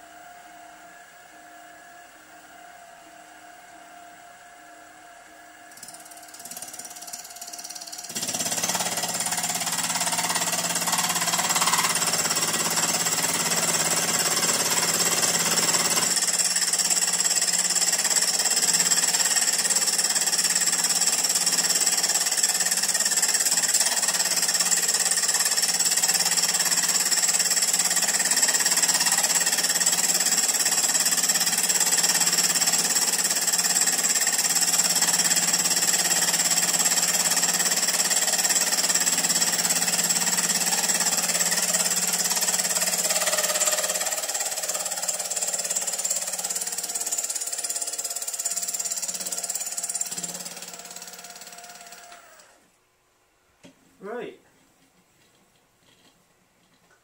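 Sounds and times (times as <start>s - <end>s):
milling machine cutting metal: 5.7s - 52.4s.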